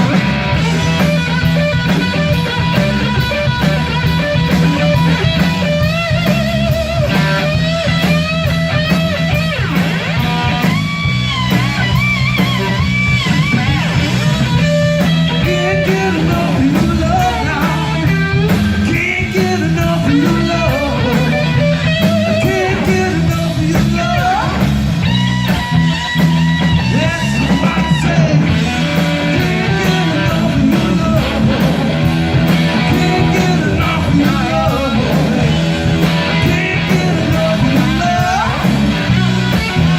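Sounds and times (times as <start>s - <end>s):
electric guitar lead lines: 0.0s - 39.9s
live rock band: 0.0s - 39.9s.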